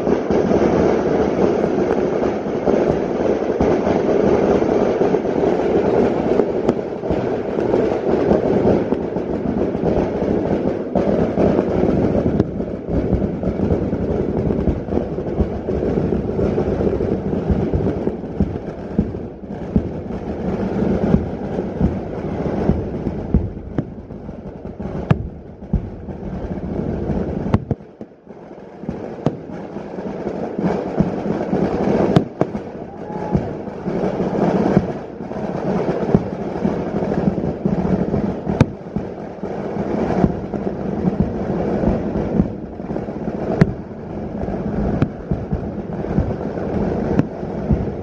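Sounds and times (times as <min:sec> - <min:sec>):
firecrackers barrage: 0:00.0 - 0:48.0.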